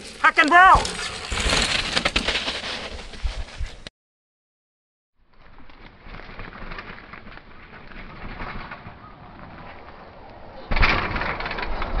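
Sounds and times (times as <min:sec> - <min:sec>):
mountain bike rushing down trail: 0:00.0 - 0:03.9, 0:05.3 - 0:12.0.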